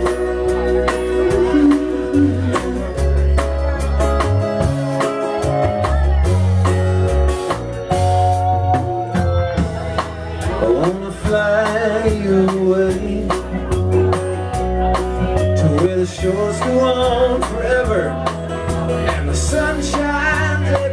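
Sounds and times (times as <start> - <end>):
live rock band playing: 0.0 - 20.9
sliding lead guitar line: 0.0 - 20.9.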